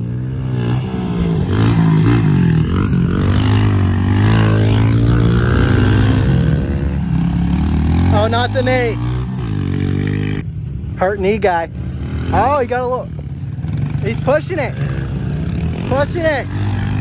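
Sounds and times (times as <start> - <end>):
pit bike engine running hard: 0.0 - 10.5, 11.8 - 17.0.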